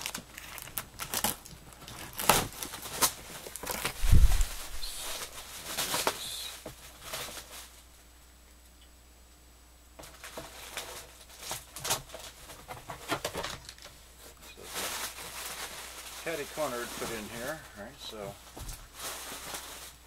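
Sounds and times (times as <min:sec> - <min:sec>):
plastic wrap crinkling: 0:00.0 - 0:07.9, 0:10.0 - 0:20.0.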